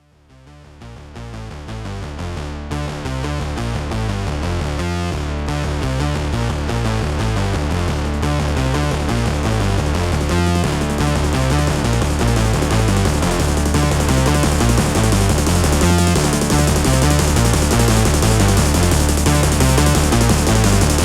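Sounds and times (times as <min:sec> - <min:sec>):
electronic music with synthesizer: 0:00.9 - 0:21.0.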